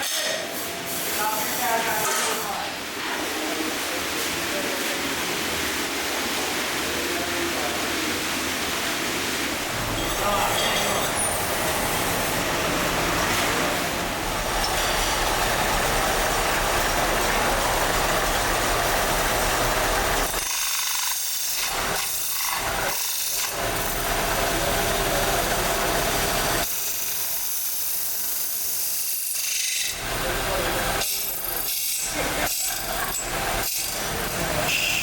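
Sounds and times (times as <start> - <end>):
workshop machinery running: 0.0 - 35.0.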